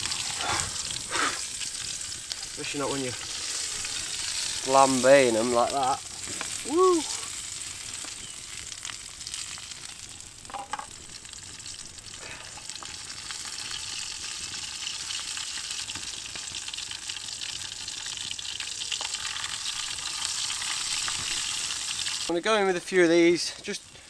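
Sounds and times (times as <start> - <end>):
mushrooms sizzling in a pan: 0.0 - 24.0.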